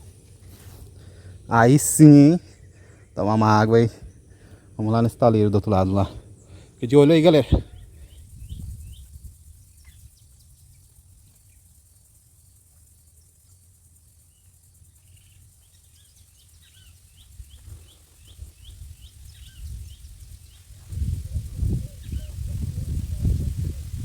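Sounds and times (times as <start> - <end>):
bird chirping: 1.0 - 23.5.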